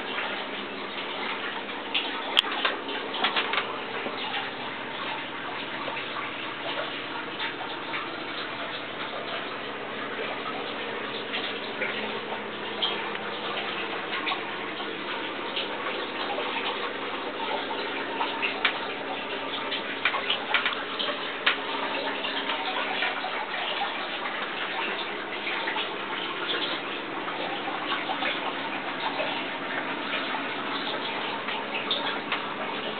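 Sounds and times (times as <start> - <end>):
water drips and splashes: 0.0 - 32.9
water trickling: 0.0 - 32.9.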